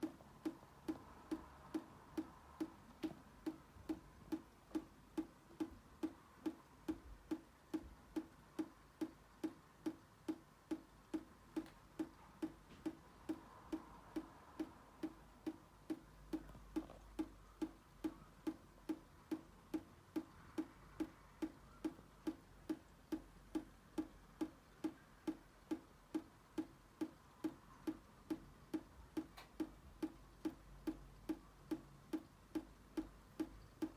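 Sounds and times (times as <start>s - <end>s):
water dripping from tap: 0.0s - 33.9s.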